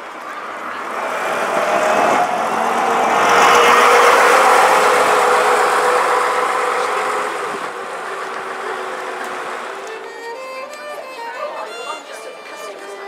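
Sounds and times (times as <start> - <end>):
bus diesel engine passing: 0.0 - 13.0.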